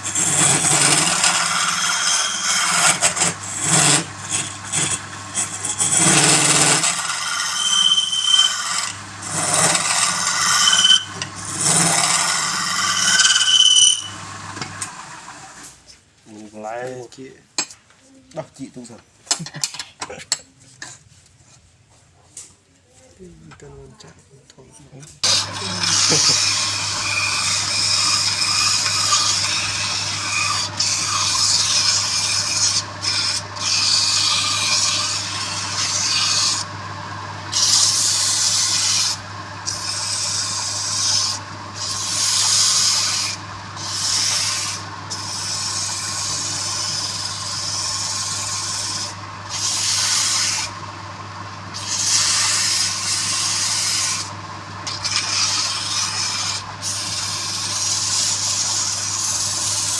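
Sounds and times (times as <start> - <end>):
power tool abrading wood: 0.0 - 15.8, 25.2 - 59.9.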